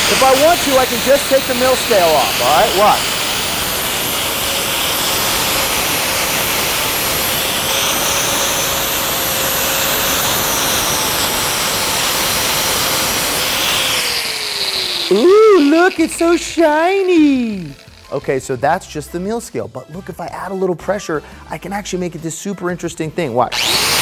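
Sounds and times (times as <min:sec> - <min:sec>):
angle grinder grinding steel: 0:00.0 - 0:19.2, 0:23.3 - 0:24.0.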